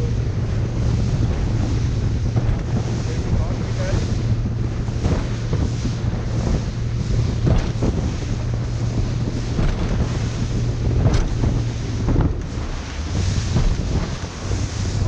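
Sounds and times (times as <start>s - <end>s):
boat engine humming: 0.0s - 15.0s
sea waves washing: 0.0s - 15.0s
wind buffeting microphone: 0.0s - 15.0s.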